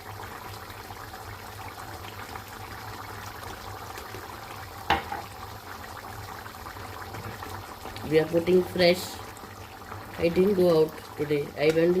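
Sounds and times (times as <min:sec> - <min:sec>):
stew bubbling in a pan: 0:00.0 - 0:12.0.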